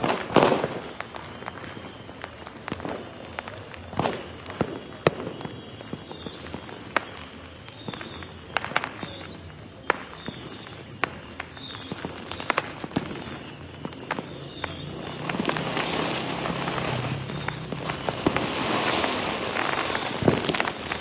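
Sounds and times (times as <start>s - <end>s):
fireworks cracks and bangs: 0.0s - 21.0s.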